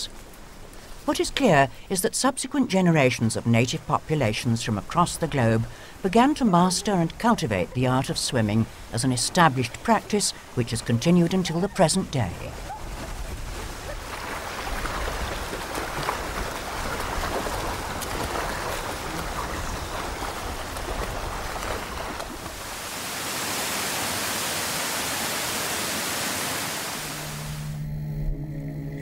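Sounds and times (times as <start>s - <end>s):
rushing water: 0.0s - 27.8s.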